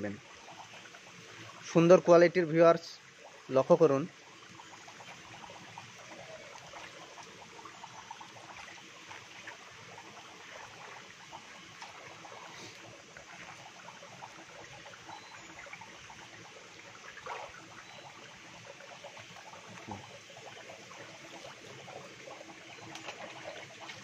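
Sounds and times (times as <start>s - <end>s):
water trickling into tank: 0.0s - 24.0s.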